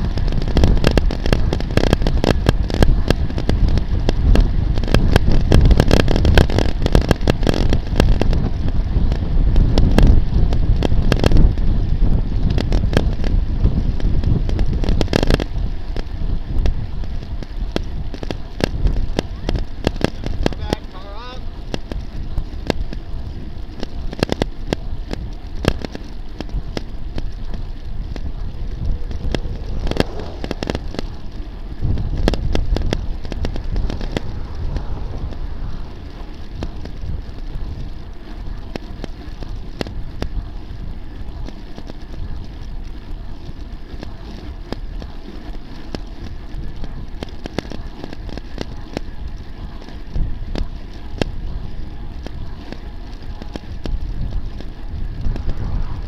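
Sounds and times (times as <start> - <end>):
bicycle clicks and rattles: 0.0 - 56.0
bicycle tyre noise on asphalt: 0.0 - 56.0
wind rushing on microphone: 0.0 - 56.0.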